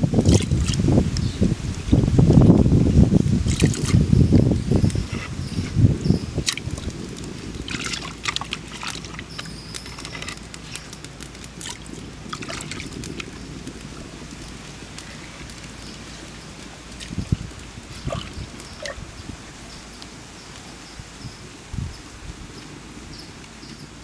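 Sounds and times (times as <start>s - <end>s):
water bubbling in a pot: 0.0s - 20.6s
fire pops and crackles: 0.0s - 24.0s.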